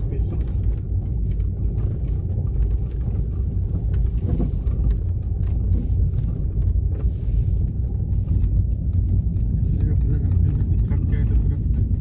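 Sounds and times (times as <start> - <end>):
car rumbling over paving: 0.0 - 12.0.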